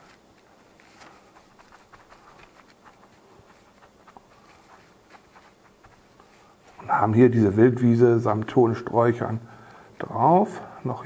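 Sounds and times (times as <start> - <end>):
faint rustling: 0.0 - 11.0.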